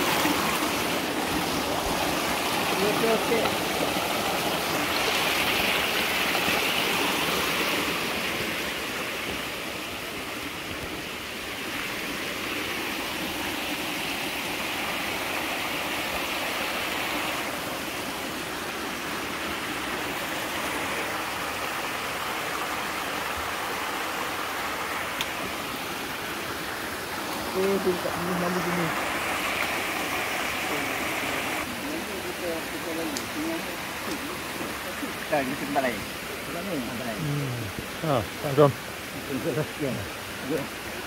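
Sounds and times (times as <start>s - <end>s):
stream rushing over boulders: 0.0s - 41.0s.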